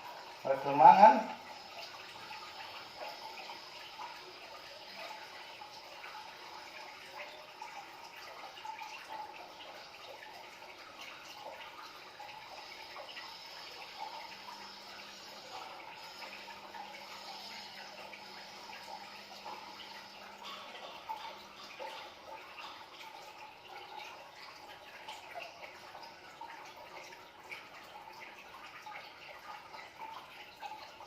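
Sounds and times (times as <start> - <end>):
water flowing and trickling: 0.0 - 31.0.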